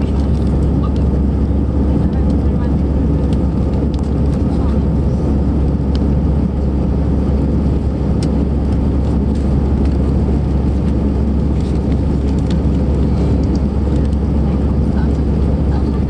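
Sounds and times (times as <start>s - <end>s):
jet engine rumble in airliner cabin: 0.0s - 16.0s.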